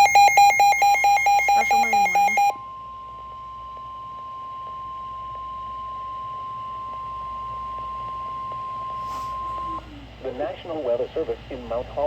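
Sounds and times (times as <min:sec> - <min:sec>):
steady high alarm tone: 0:00.0 - 0:09.8.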